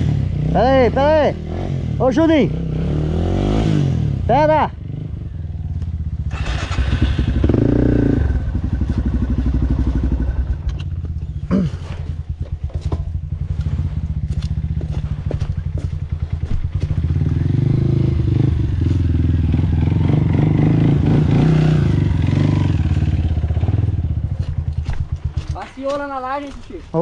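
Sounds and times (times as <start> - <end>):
dirt bike engine revving: 0.0 - 5.4, 6.1 - 26.0.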